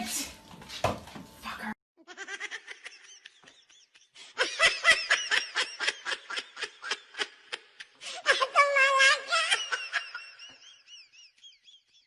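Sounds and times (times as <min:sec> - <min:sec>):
person laughing: 0:02.0 - 0:12.0.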